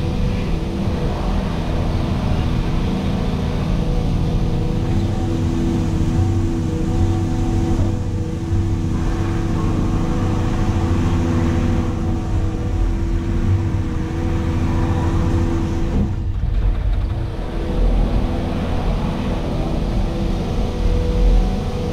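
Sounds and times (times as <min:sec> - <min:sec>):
excavator engine and hydraulics: 0:00.0 - 0:21.9.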